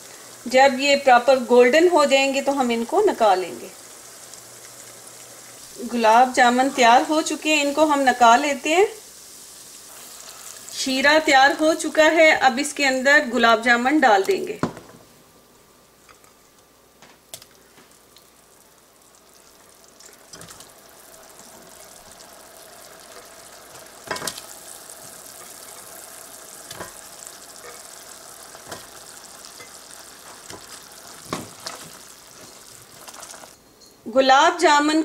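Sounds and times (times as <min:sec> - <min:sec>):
sugar syrup bubbling and sizzling: 0:00.0 - 0:33.7.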